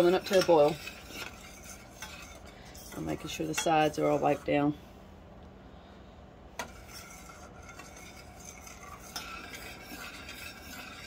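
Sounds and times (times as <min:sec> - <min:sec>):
spoon scraping a saucepan: 0:00.0 - 0:04.7, 0:06.6 - 0:11.0.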